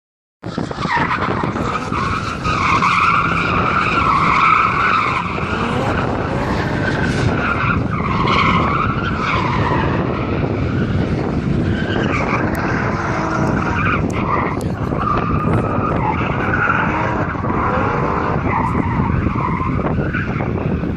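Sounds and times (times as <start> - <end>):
car engine: 0.4 - 20.9.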